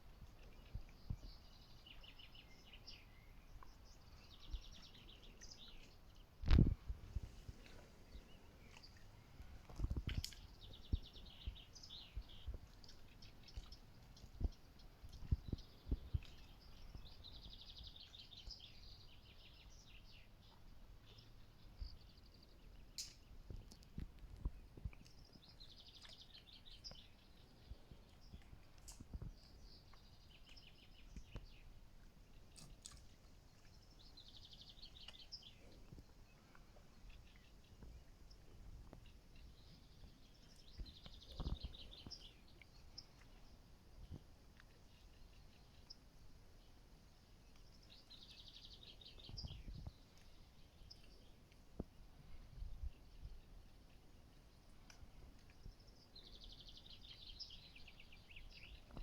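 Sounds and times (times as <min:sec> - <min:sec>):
outdoor background noise: 0:00.0 - 0:59.0
songbirds chirping: 0:00.0 - 0:59.0.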